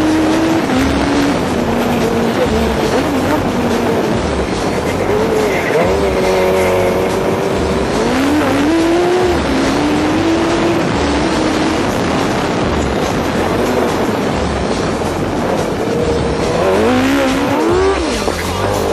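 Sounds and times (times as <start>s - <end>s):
go-kart engine running hard: 0.0s - 18.9s.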